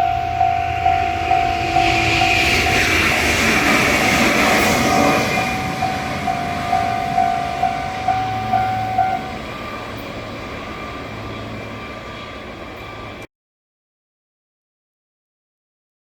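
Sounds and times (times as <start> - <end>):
level crossing warning bell: 0.0 - 13.3
passing train rumble: 0.0 - 13.3.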